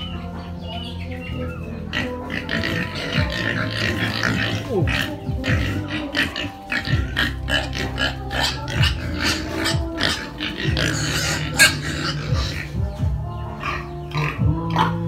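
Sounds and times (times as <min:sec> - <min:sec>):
music playing: 0:00.0 - 0:15.0
pigs grunting and oinking: 0:00.0 - 0:15.0.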